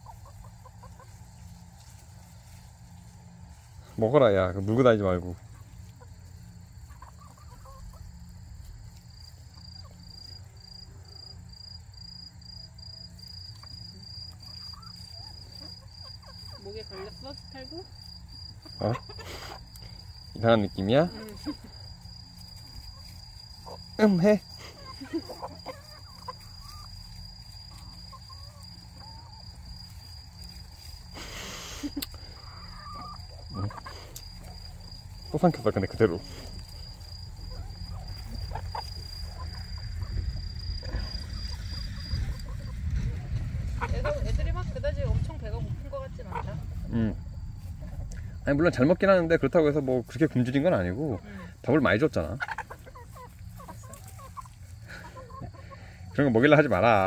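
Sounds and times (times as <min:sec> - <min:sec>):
cricket trilling: 0:00.0 - 0:57.0
hens clucking: 0:00.0 - 0:57.0
insect chirping: 0:00.0 - 0:57.0
rustle: 0:00.0 - 0:57.0.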